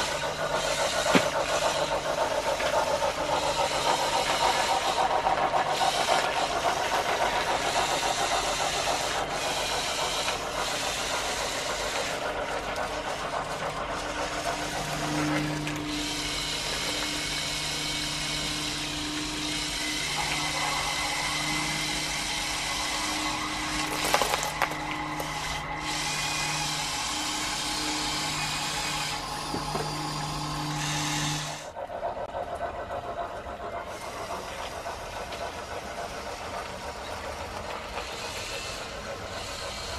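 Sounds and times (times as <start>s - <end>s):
toy electric motors whirring: 0.0s - 31.8s, 33.8s - 39.9s.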